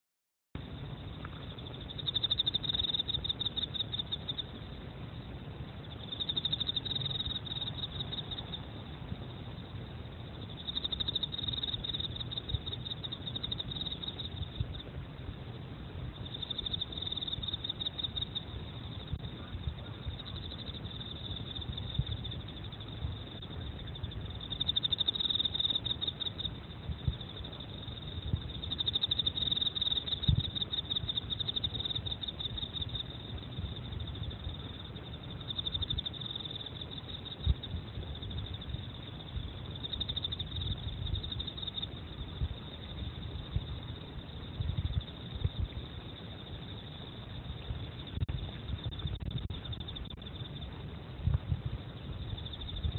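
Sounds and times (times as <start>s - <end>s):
cricket pulsed trills: 0.6s - 52.9s.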